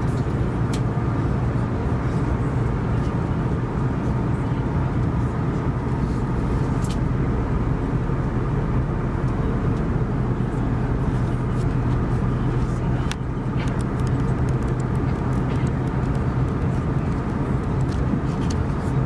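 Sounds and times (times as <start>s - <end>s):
airflow rushing in cabin: 0.0s - 19.0s
low engine drone: 0.0s - 19.0s.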